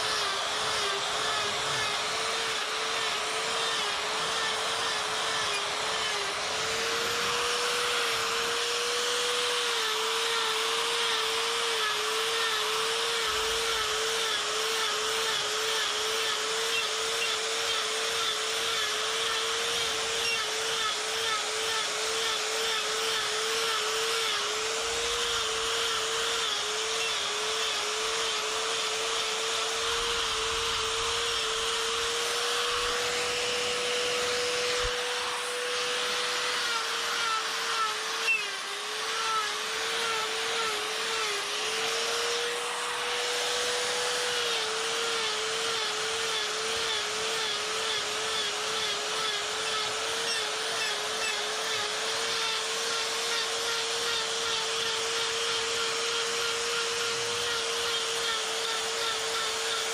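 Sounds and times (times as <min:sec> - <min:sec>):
die grinder cutting wood: 0:00.0 - 0:59.9.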